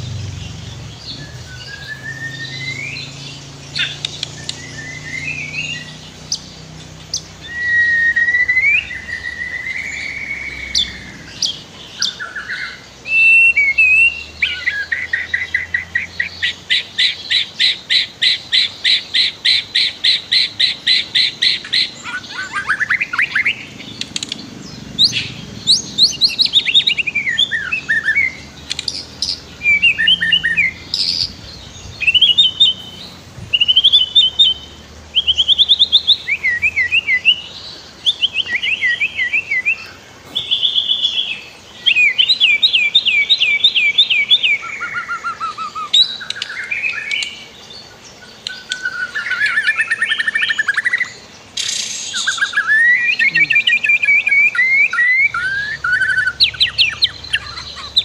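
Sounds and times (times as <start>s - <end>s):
bird singing whistled phrases: 1.0s - 6.5s, 7.4s - 23.7s, 25.0s - 47.4s, 48.5s - 58.0s.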